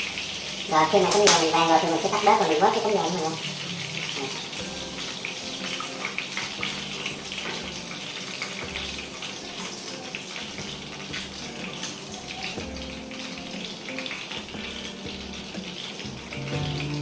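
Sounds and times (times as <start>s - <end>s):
chicken sizzling in hot oil: 0.0s - 17.0s
small crackles: 0.0s - 17.0s.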